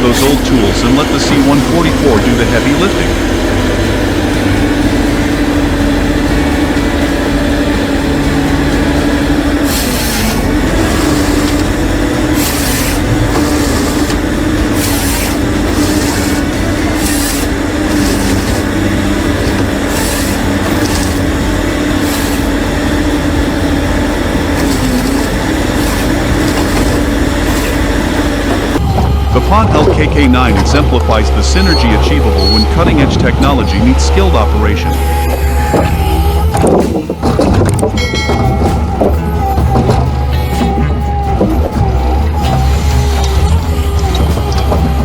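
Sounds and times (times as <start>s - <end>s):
heavy machine engine rumbling: 0.0s - 45.0s.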